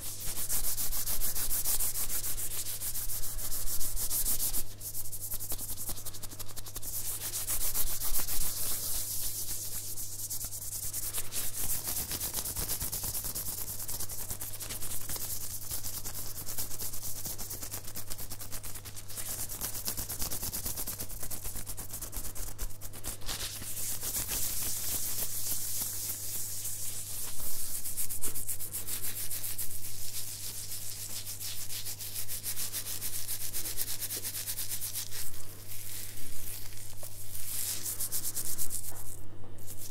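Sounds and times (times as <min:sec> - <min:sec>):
hands rubbing together: 0:00.0 - 0:39.9.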